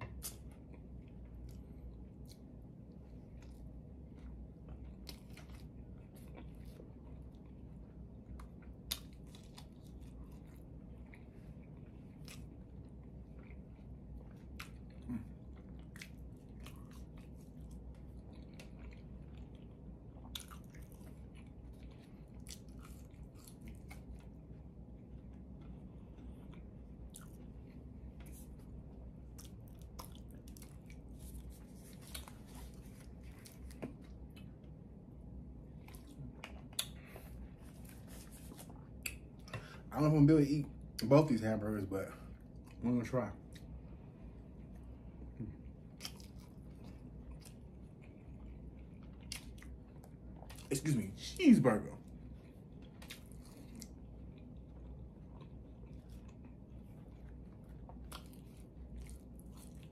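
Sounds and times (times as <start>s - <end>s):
person chewing food: 0.0s - 39.8s, 43.4s - 51.1s, 52.0s - 59.9s.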